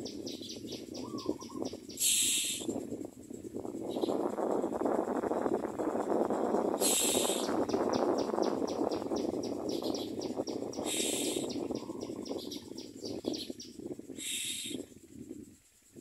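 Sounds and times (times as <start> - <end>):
fast even chirping: 0.0 - 15.0
harsh hissing begging calls: 0.0 - 15.9.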